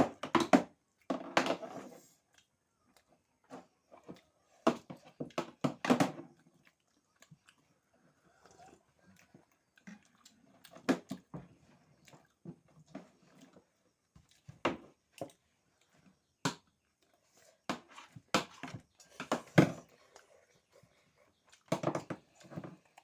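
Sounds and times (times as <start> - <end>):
wet chewing sounds: 2.0 - 19.2, 19.8 - 23.0.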